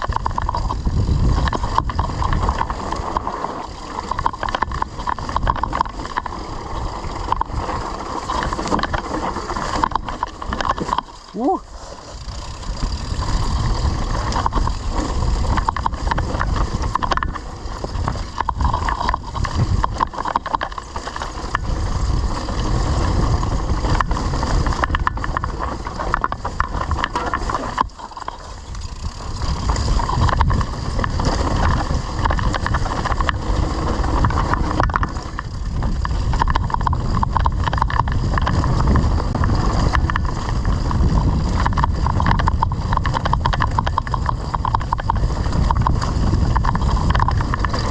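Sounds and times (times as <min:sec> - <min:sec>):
bike rumbling and rattling: 0:00.0 - 0:47.9
wind on microphone: 0:00.0 - 0:47.9.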